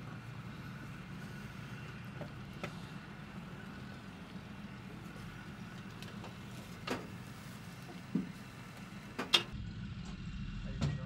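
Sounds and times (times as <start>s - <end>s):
tank diesel engine idling: 0.0s - 11.0s.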